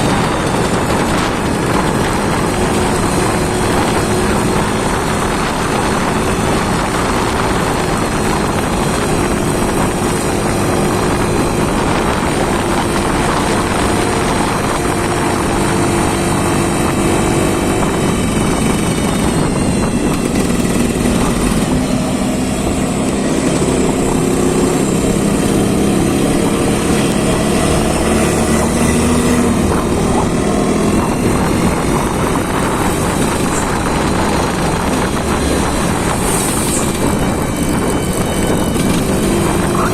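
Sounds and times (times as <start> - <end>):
engine running loud: 0.0 - 39.9.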